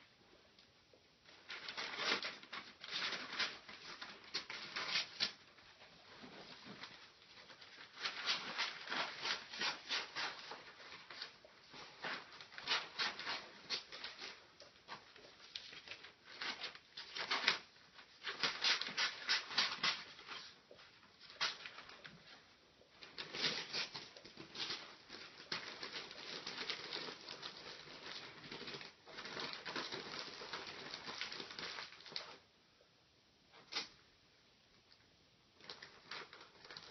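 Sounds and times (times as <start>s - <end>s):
wrapping paper crinkling: 1.3s - 32.4s, 35.6s - 36.9s.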